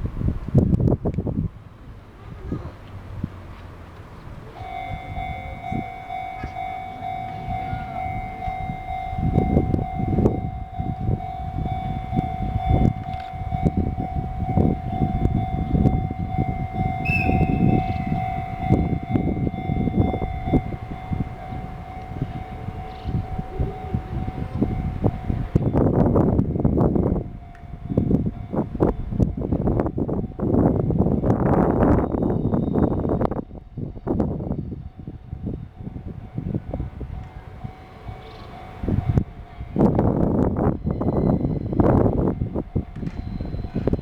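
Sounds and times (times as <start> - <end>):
freight train rumble: 0.0 - 44.0
train wheel clatter: 2.8 - 34.4, 35.4 - 44.0
level crossing alarm ringing: 4.6 - 44.0.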